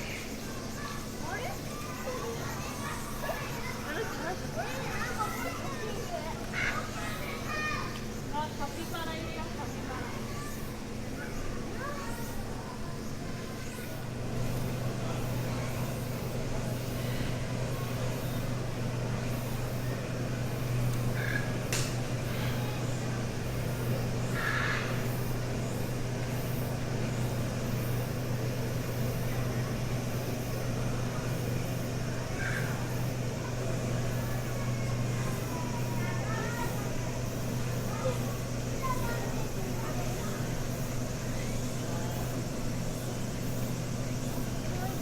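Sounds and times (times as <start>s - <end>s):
faint distant voices: 0.0s - 45.0s
low mechanical hum of machinery: 0.0s - 45.0s.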